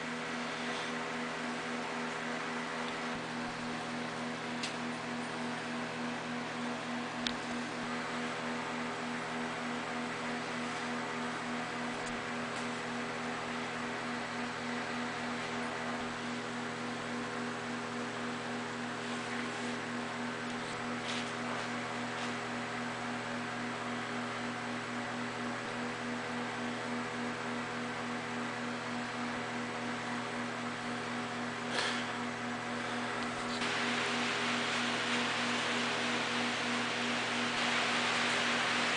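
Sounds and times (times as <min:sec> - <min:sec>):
steady electrical hum: 0:00.0 - 0:38.9.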